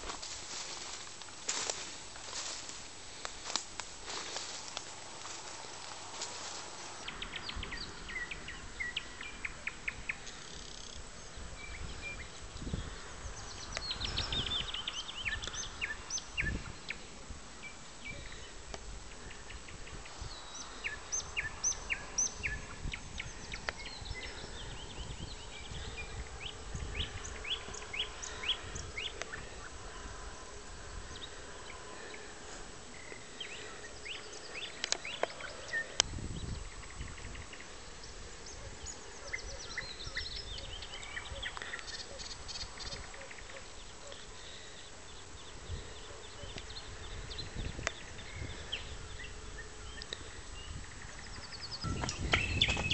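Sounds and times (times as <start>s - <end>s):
nightingales singing: 0.0s - 52.9s
outdoor background noise: 0.0s - 52.9s.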